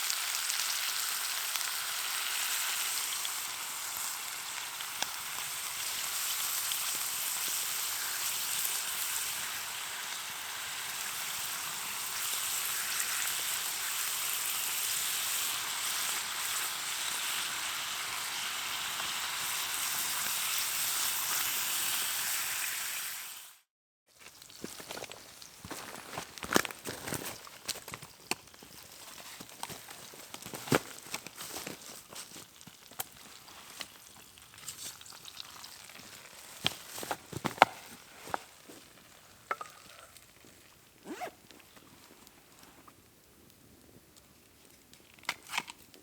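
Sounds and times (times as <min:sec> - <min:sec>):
fire crackling: 0:00.0 - 0:22.4, 0:24.2 - 0:46.0
food sizzling in a pan: 0:00.0 - 0:41.3.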